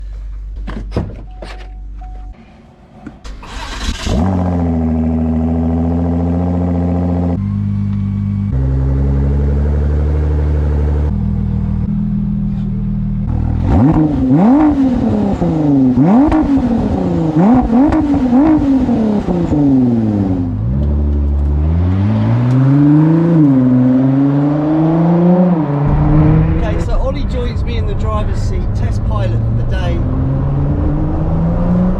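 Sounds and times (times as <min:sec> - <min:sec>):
car engine starting and idling: 0:00.0 - 0:31.9
car engine revving: 0:03.2 - 0:31.9.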